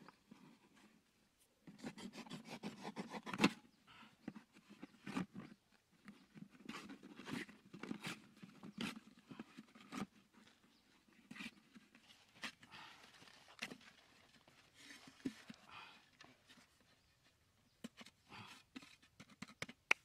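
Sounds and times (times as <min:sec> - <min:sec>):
taps and scrapes: 0:01.6 - 0:03.6, 0:04.2 - 0:20.0.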